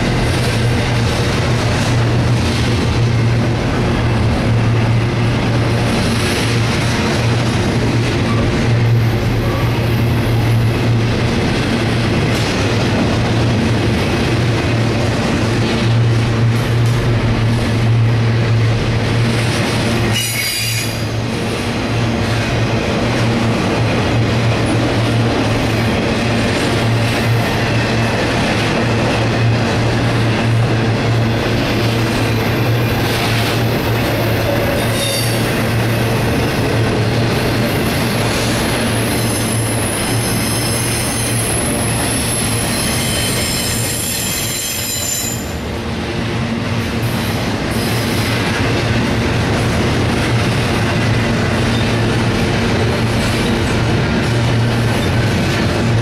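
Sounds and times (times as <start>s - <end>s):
freight train rumbling and rattling: 0.0s - 56.0s.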